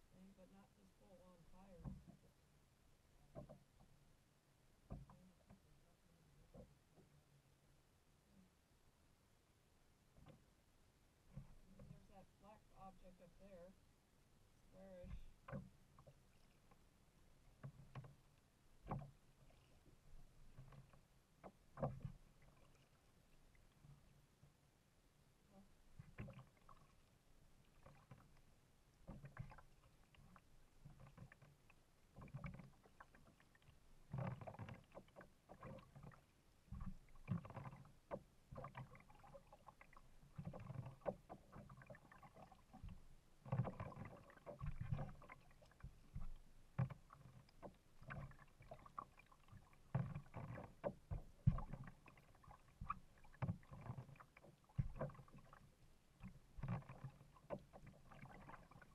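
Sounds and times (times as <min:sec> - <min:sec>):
paddle splashes: 0:00.0 - 0:07.3, 0:10.1 - 0:13.8, 0:14.6 - 0:58.9
water lapping against hull: 0:00.0 - 0:08.7, 0:09.9 - 0:58.9.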